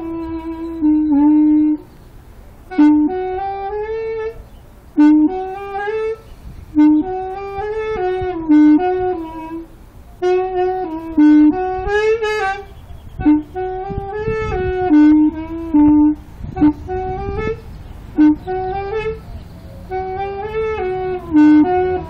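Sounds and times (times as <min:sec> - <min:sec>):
homemade saxophone melody: 0:00.0 - 0:22.0.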